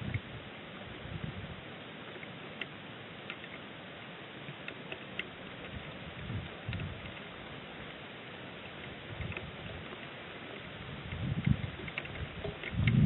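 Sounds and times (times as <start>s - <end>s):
rain hiss: 0.0s - 13.0s
raindrops ticking on microphone: 0.0s - 13.0s.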